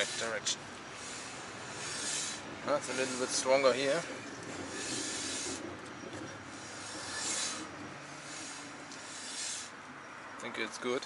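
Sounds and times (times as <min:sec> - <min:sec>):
brake shoes rubbing inside drum: 0:00.0 - 0:11.0.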